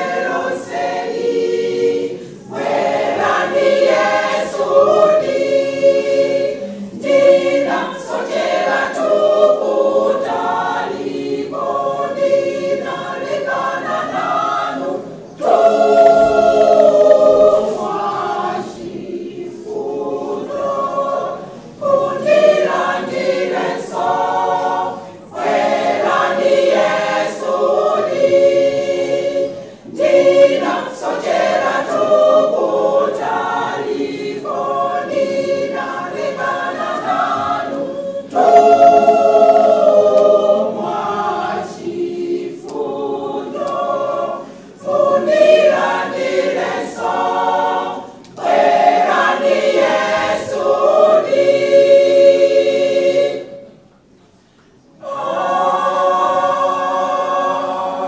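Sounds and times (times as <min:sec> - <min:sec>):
women's choir singing a hymn: 0:00.0 - 0:53.9, 0:54.7 - 0:58.0.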